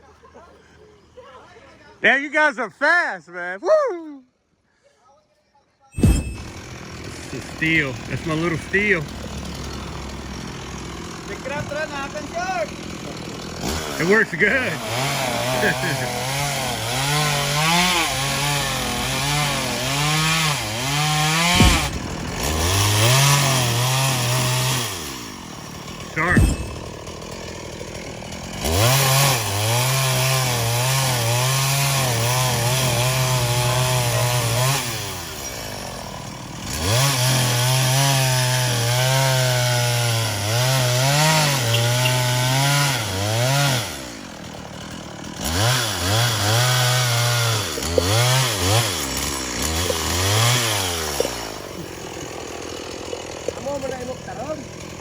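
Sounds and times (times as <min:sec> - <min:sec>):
chainsaw revving: 0:06.0 - 0:55.0.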